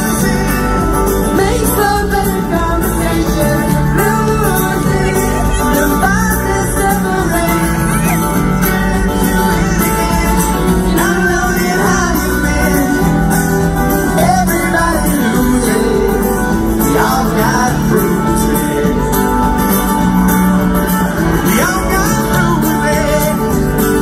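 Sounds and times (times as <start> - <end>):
man and woman singing: 0.0 - 19.6, 21.1 - 24.0
drums: 0.0 - 24.0
guitars: 0.0 - 24.0.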